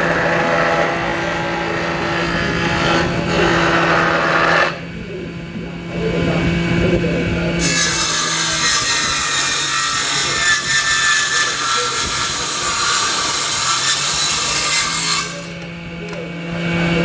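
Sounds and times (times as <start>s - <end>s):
power tool cutting wood: 0.0s - 4.8s, 7.6s - 17.0s.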